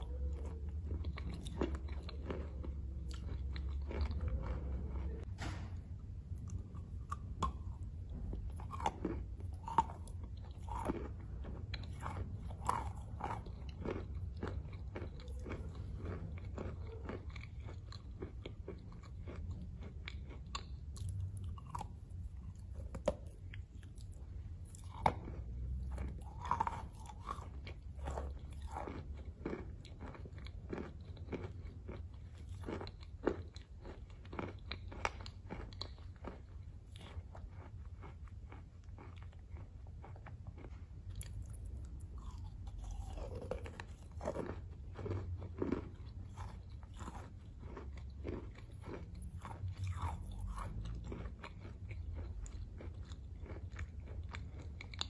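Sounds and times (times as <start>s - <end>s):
person chewing chalk crunchily: 0.0s - 5.3s, 5.9s - 55.0s
low steady hum: 0.0s - 55.0s.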